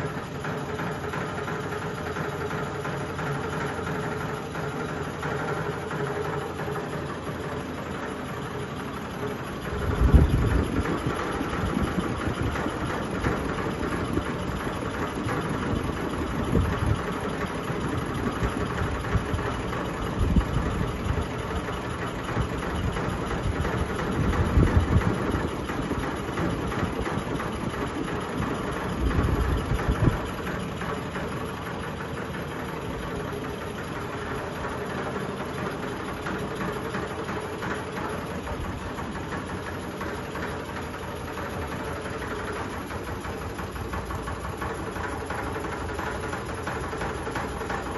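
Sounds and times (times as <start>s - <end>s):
ceiling fan rattling: 0.0s - 47.9s
fan knocking: 0.0s - 47.9s.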